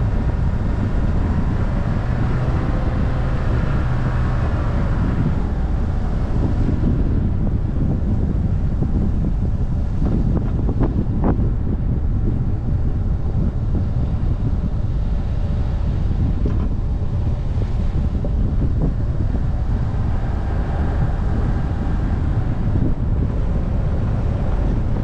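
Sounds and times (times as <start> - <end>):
faint engine whine: 0.0 - 25.0
road rumble: 0.0 - 25.0
wind buffeting microphone: 0.0 - 25.0.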